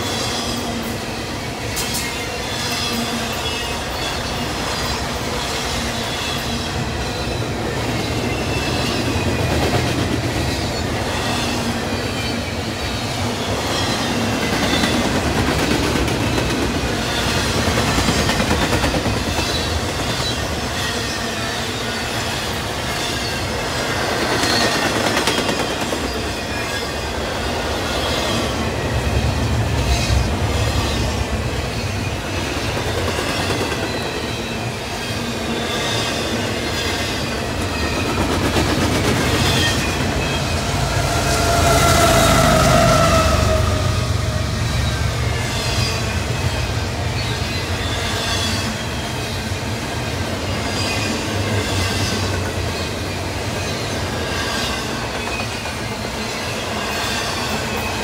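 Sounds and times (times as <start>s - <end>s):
freight train wheels rumbling on rail: 0.0s - 58.0s.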